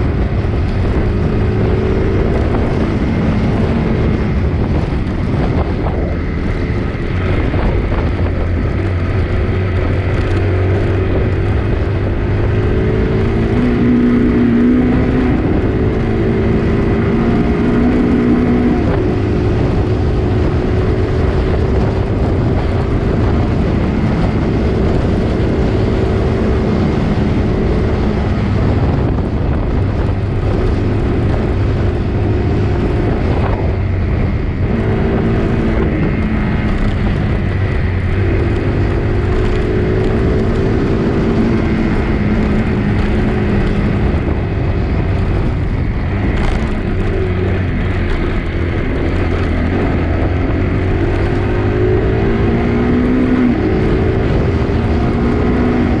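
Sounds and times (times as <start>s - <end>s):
vehicle engine running: 0.0s - 56.0s
wind rushing over microphone: 0.0s - 56.0s.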